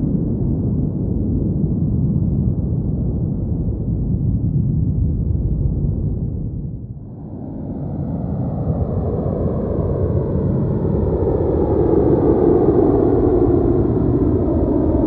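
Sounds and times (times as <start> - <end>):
airplane engine rumble: 0.0 - 15.0.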